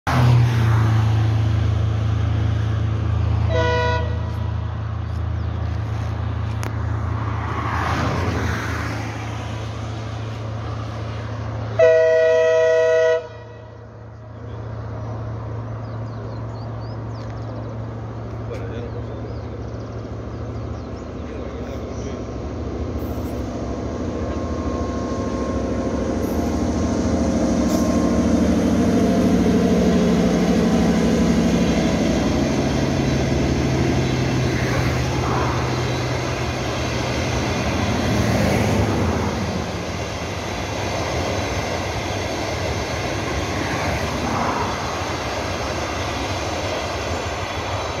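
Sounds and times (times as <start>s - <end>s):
locomotive engine hum: 0.1s - 48.0s
train coaches rolling past: 0.1s - 48.0s.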